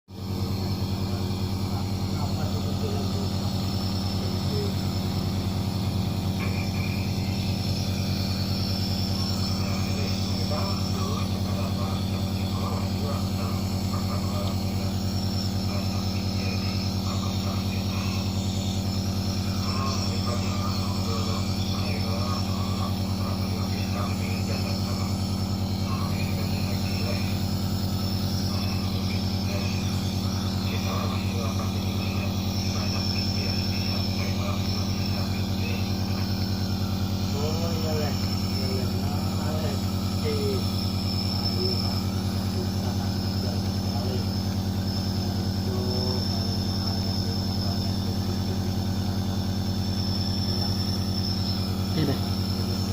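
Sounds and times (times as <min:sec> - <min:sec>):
nebulizer pump motor humming: 0:00.1 - 0:52.9.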